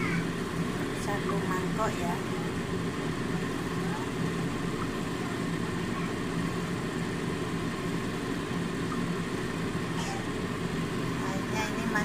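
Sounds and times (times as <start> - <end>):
stove burner flame rumble: 0.0 - 12.0.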